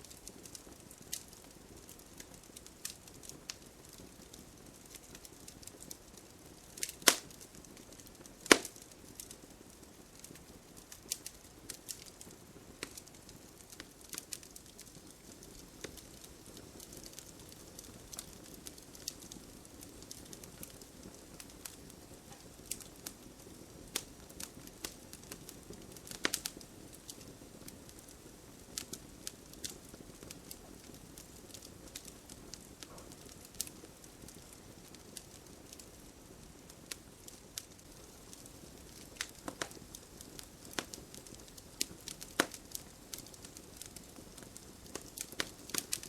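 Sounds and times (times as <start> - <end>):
campfire hiss: 0.0 - 46.0
wood crackling and popping: 0.0 - 46.0.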